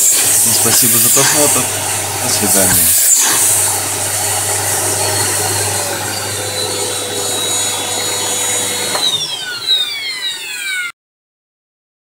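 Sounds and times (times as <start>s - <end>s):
vacuum cleaner motor running: 0.0s - 10.9s
motor whine spinning down: 0.0s - 11.0s.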